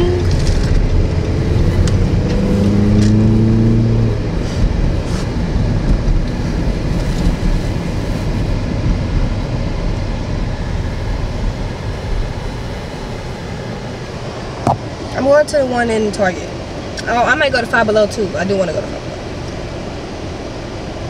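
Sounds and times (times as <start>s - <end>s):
car engine drone: 0.0s - 21.0s
road rumble: 0.0s - 21.0s.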